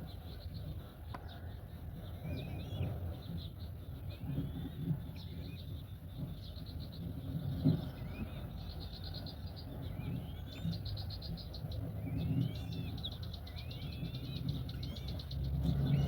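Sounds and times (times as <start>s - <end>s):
wild bird calls: 0.0s - 16.0s.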